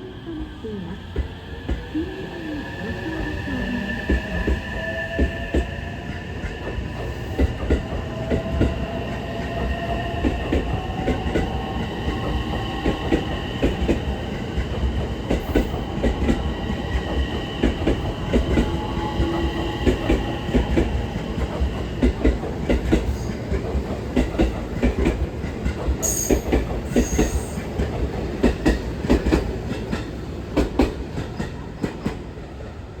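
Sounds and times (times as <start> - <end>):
high train whine: 0.0 - 33.0.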